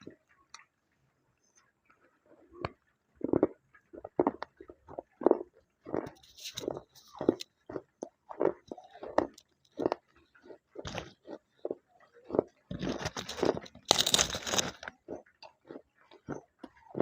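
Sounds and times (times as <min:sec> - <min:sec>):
crunching and chewing: 0:01.5 - 0:17.0.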